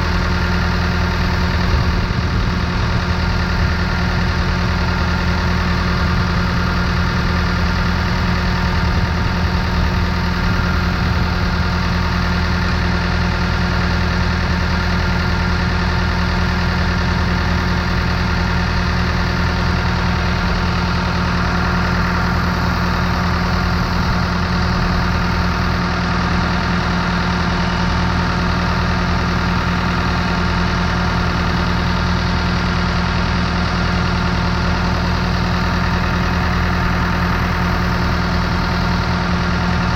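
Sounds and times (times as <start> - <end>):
pump engine running steadily: 0.0 - 39.9.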